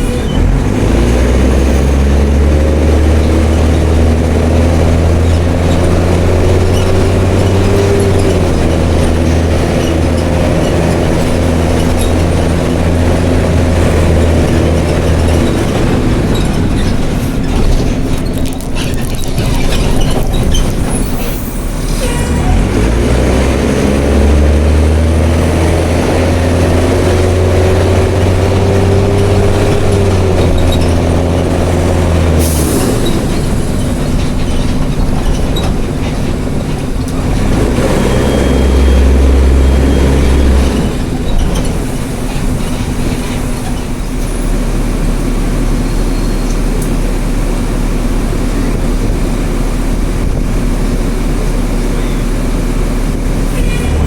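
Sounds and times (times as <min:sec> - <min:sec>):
bus diesel engine accelerating: 0:00.0 - 0:54.0.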